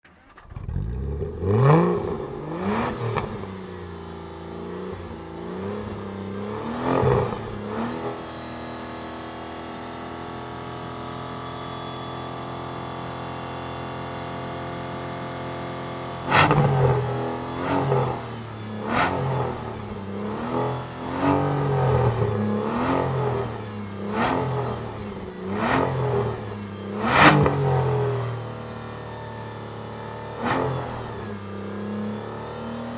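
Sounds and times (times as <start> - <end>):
car engine revving and idling: 0.1 - 32.9.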